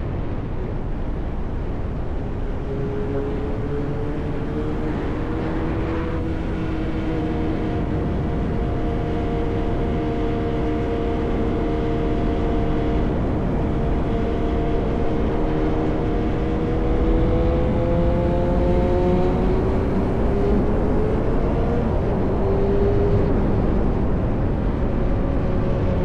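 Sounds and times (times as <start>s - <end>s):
wind and road noise: 0.0s - 26.0s
motorcycle engine cruising: 2.4s - 26.0s.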